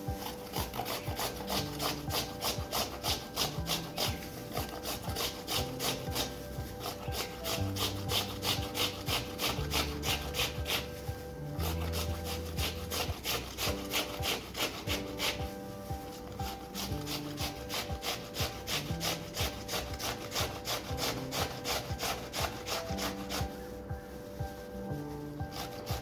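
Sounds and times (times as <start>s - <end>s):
background music: 0.0s - 26.0s
rhythmic rubbing strokes: 0.0s - 26.0s.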